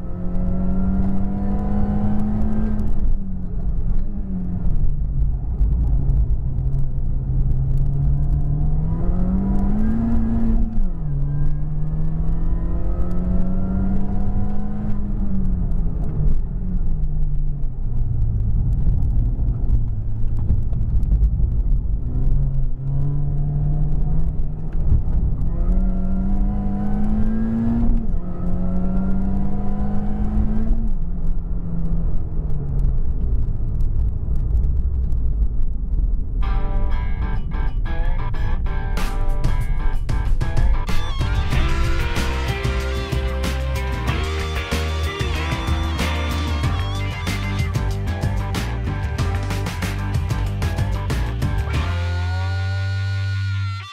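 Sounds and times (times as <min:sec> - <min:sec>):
car engine revving: 0:00.0 - 0:17.2, 0:21.9 - 0:31.8, 0:37.4 - 0:53.9.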